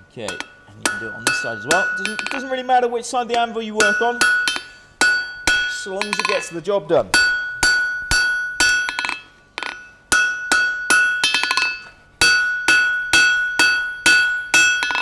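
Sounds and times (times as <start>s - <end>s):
anvil ringing: 0.0s - 15.0s
hammer striking steel on anvil: 0.0s - 15.0s.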